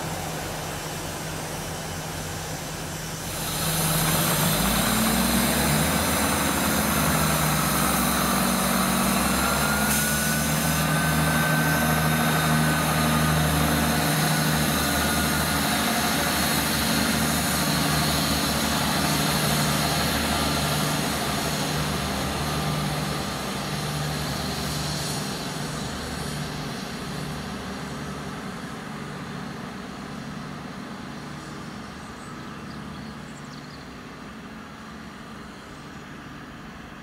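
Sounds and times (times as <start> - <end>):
diesel train engine drone: 0.0 - 37.0.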